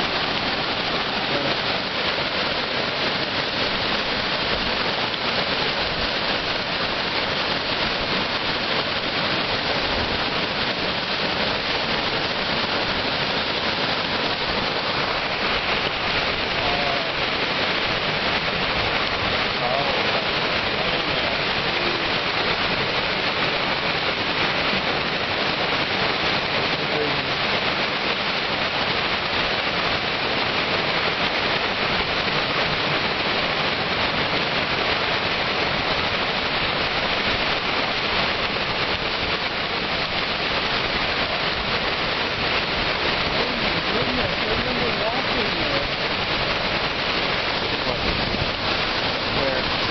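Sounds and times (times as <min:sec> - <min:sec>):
floodwater rushing: 0:00.0 - 0:49.9.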